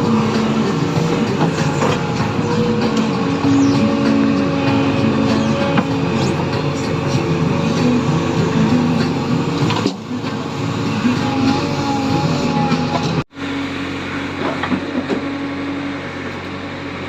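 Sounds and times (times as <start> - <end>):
backhoe loader diesel engine: 0.0 - 17.0.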